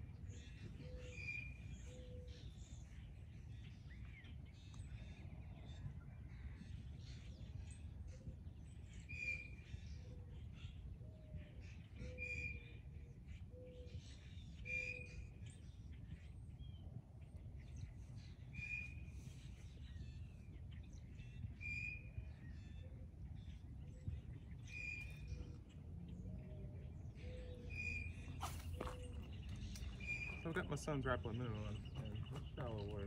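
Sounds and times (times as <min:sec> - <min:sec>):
birds whistling and chipping: 0:00.0 - 0:33.0.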